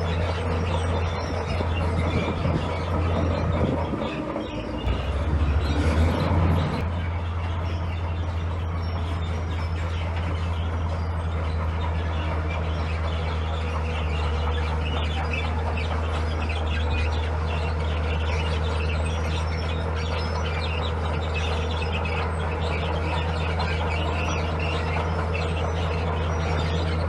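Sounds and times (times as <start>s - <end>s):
bulldozer diesel engine droning: 0.0s - 27.0s
high-pitched chirping and clattering: 0.0s - 27.0s.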